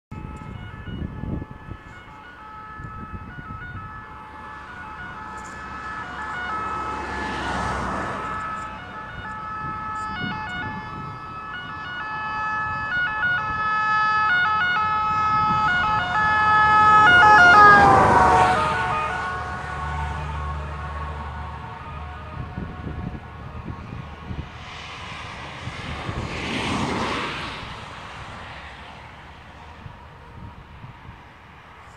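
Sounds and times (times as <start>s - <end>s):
two-tone fire engine siren: 0.1s - 31.9s
vehicle passing: 2.2s - 31.9s
truck rushing past: 2.4s - 30.2s.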